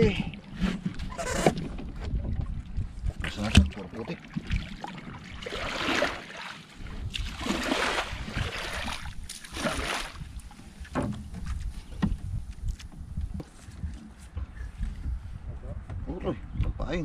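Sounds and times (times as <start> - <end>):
water sloshing around boat: 0.0 - 16.6.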